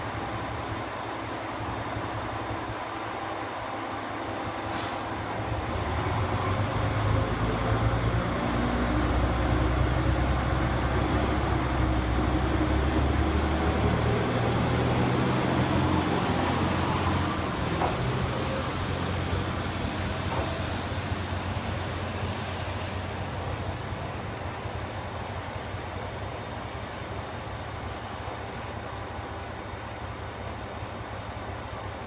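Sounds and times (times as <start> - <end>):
diesel railcar engine drone: 0.0 - 32.0.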